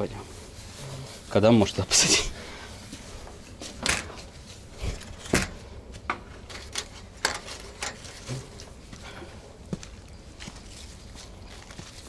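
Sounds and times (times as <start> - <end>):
footsteps on boards and dry leaves: 0.0 - 12.0.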